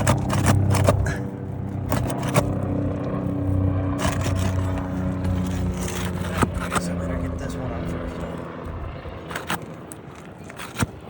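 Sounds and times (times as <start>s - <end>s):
pry bar scraping shingles: 0.0s - 8.5s, 9.2s - 11.0s
low mechanical hum: 0.0s - 11.0s.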